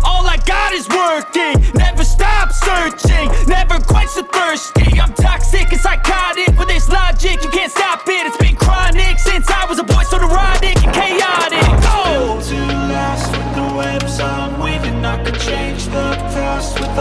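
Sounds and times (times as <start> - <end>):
rapping over heavy bass beat: 0.0 - 17.0.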